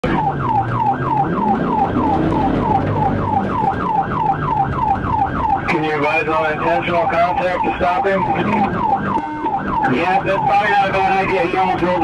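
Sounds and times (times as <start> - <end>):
car engine and road noise: 0.0 - 12.0
police siren yelping: 0.0 - 12.0.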